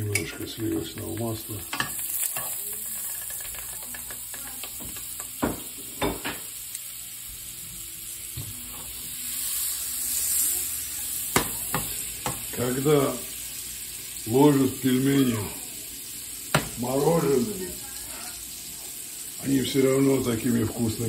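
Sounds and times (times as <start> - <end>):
butter sizzling in a frying pan: 0.0 - 21.0.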